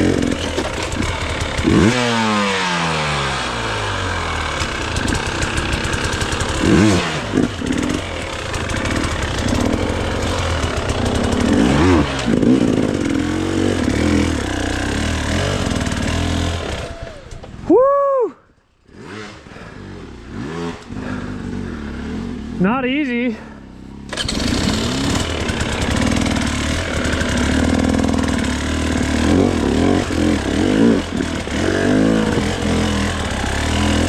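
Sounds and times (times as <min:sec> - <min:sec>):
dirt bike engine revving: 0:00.0 - 0:17.3, 0:18.8 - 0:34.0.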